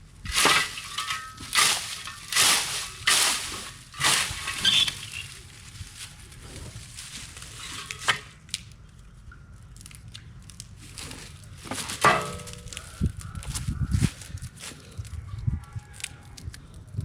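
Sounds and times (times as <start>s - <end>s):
dry plants crunching: 0.0s - 17.0s.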